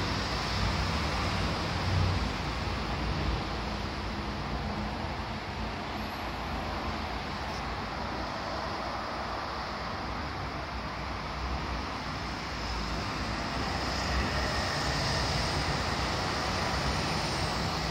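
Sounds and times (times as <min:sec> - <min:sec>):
steady rushing ambient noise: 0:00.0 - 0:17.9.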